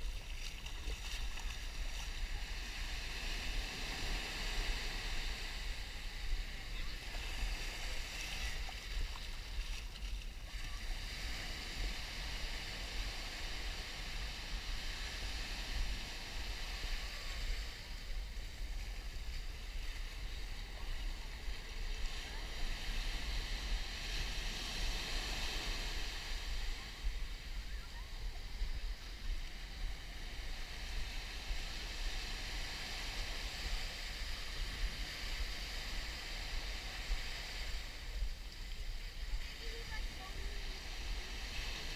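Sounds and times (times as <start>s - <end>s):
surf washing on a beach: 0.0s - 41.9s
wind rumble on microphone: 0.0s - 41.9s.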